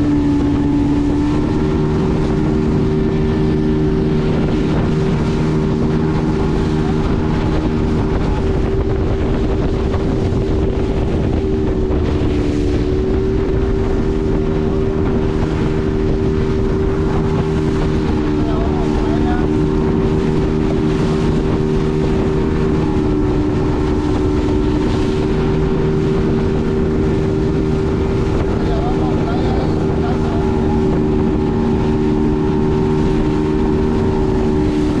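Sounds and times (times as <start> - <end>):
motorboat engine running: 0.0 - 35.0
wind buffeting microphone: 0.0 - 35.0.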